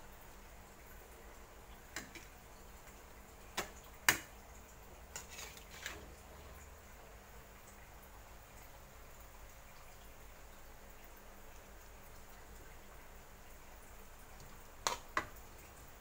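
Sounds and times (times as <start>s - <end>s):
faint steady background: 0.0s - 16.0s.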